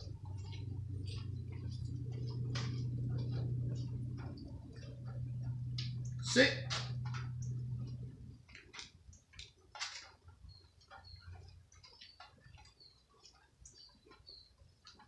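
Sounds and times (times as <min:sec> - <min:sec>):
raindrops tapping: 0:00.0 - 0:15.0.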